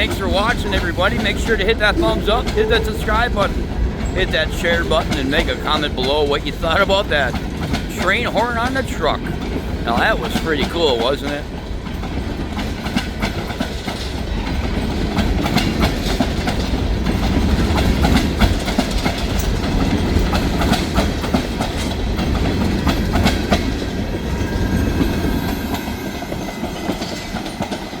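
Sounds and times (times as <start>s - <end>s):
train rumbling past: 0.0s - 28.0s
wheels clacking over rail joints: 0.0s - 28.0s.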